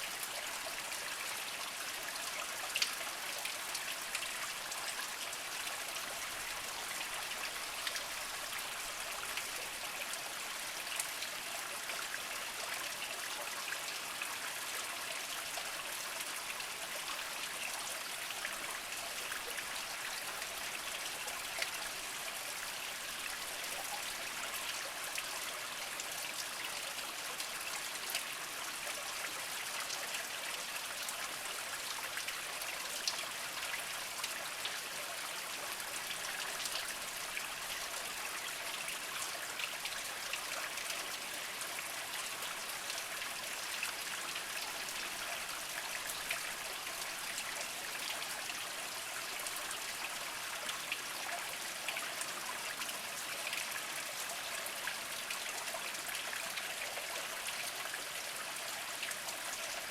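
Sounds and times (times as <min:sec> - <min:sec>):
water trickling over rocks: 0:00.0 - 0:59.9.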